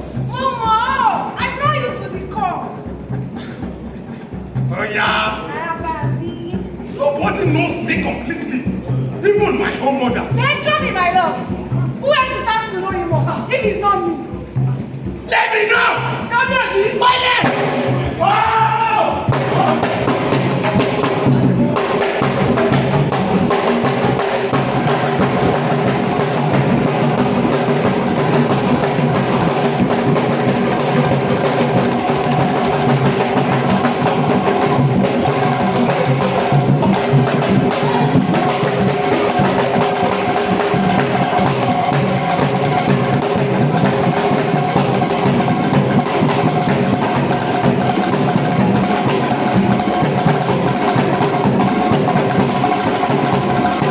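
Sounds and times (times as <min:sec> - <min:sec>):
drum-led music: 0:00.0 - 0:53.9.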